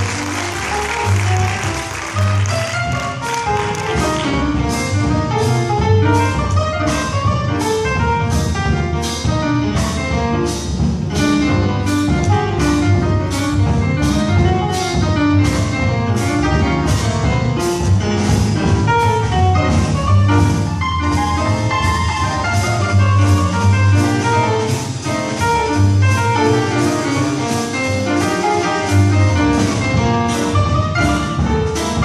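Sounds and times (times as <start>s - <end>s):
jazz big band playing: 0.0s - 32.0s.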